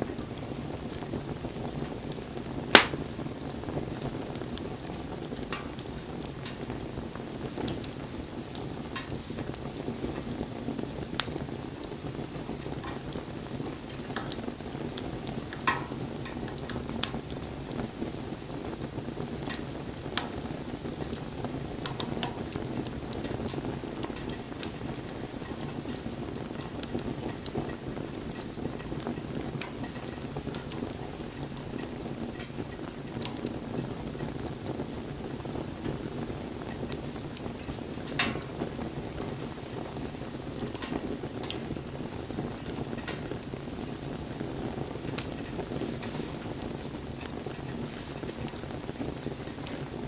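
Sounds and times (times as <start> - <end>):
burning wood crackling and popping: 0.0 - 50.0
flames hissing: 0.0 - 50.0.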